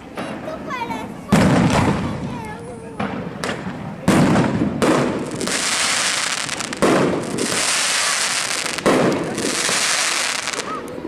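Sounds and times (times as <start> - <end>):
firework crackling: 0.3 - 11.0
firework shells bursting: 1.4 - 10.7.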